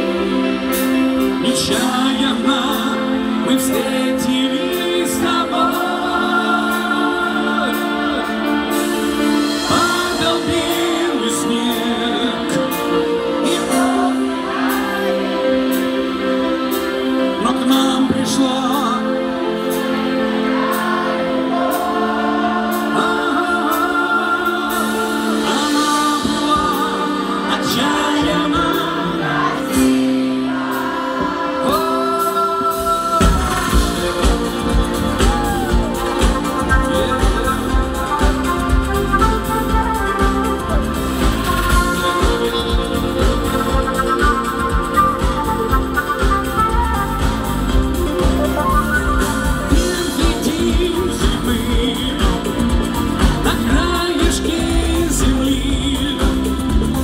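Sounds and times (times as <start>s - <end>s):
held keyboard chords: 0.0s - 57.0s
live pop band playing: 0.0s - 57.0s
person singing: 0.0s - 57.0s.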